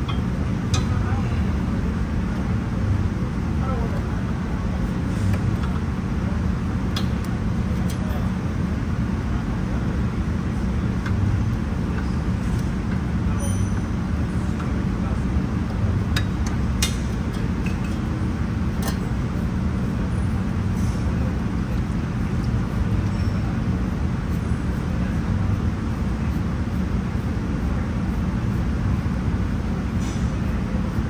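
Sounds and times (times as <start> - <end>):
low mechanical rumble: 0.0 - 31.0.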